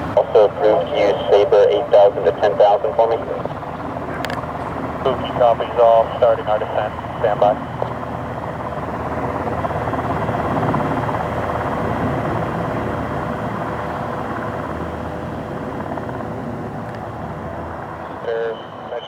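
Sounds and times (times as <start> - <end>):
military aircraft flying past: 0.0 - 19.0.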